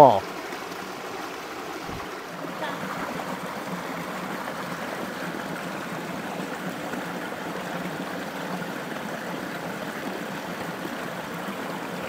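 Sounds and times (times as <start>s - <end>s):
water babbling over rocks: 0.0s - 12.0s.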